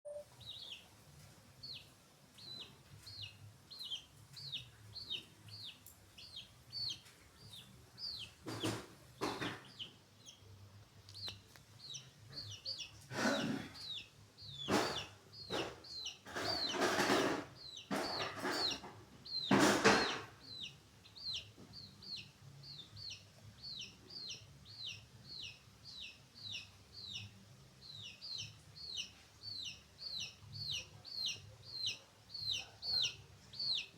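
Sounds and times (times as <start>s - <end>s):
chickens peeping: 0.1s - 33.9s.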